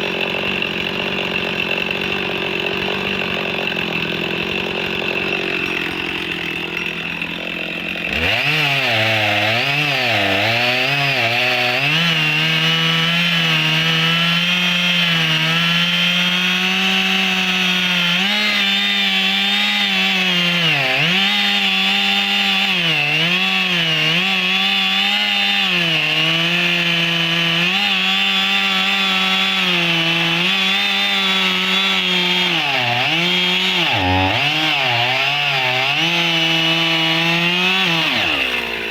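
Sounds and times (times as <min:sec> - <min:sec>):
chainsaw cutting through logs: 0:00.0 - 0:38.9.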